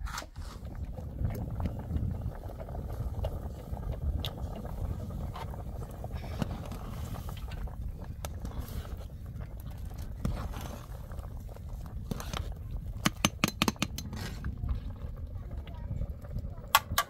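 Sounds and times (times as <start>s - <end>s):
fire crackles: 0.0s - 17.0s
wood fire burning: 0.0s - 17.0s.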